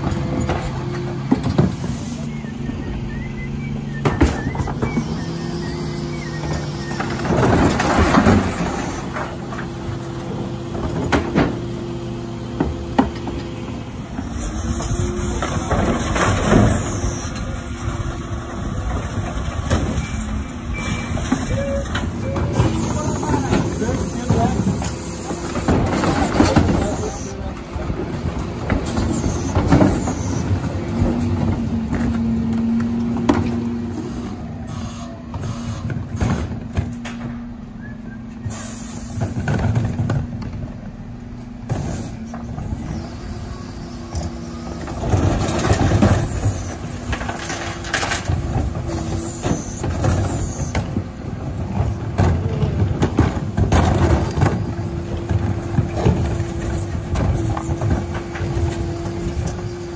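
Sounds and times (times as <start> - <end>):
refuse truck mechanical hum: 0.0 - 59.9.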